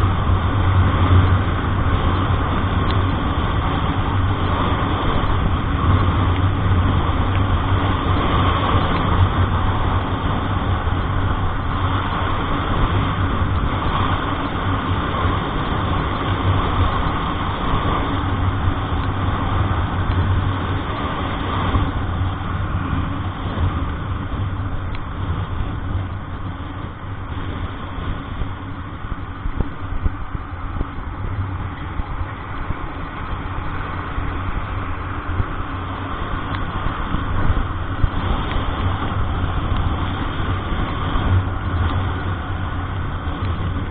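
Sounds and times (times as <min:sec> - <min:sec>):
road noise: 0:00.0 - 0:43.9
vehicle engine droning: 0:00.0 - 0:43.9.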